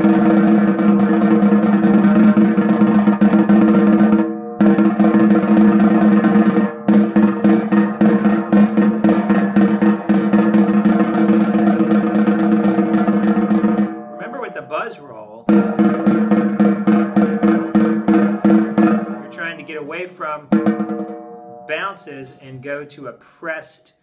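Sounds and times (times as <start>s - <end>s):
snare drum buzz roll: 0.0s - 14.4s, 15.5s - 19.6s, 20.5s - 21.2s.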